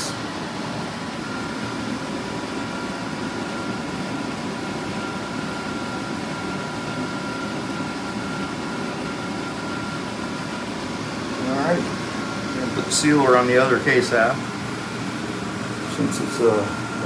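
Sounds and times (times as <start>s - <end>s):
faint high whine: 0.0s - 17.0s
machine hum: 0.0s - 17.0s.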